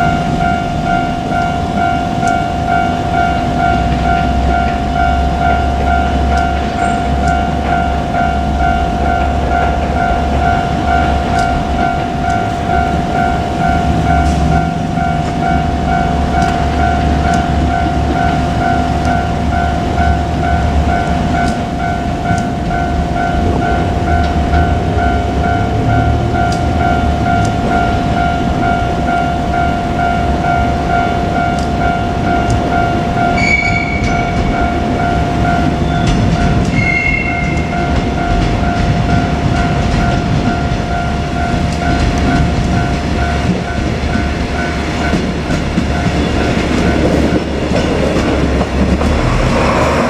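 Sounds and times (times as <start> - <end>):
diesel train rumble: 0.0 - 50.0
level crossing alarm ringing: 0.0 - 50.0
train wheel clicks: 0.0 - 50.0.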